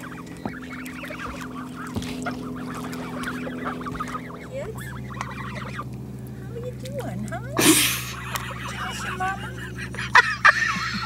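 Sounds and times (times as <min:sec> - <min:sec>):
young geese calling: 0:00.0 - 0:11.0.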